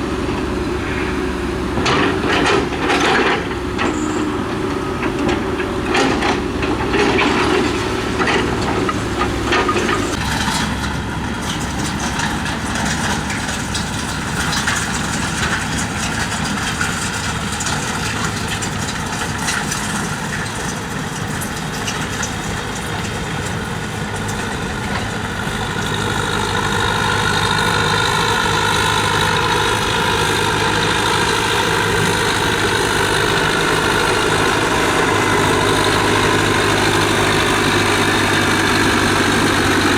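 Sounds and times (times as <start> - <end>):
diesel engine of tracked machinery: 0.0 - 39.9.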